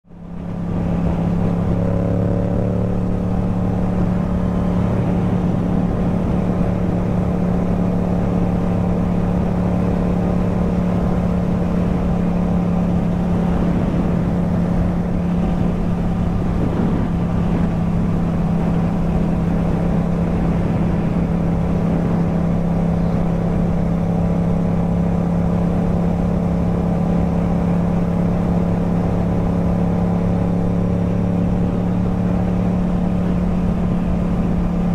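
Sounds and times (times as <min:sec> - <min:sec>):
motorcycle engine cruising: 0:00.0 - 0:34.9.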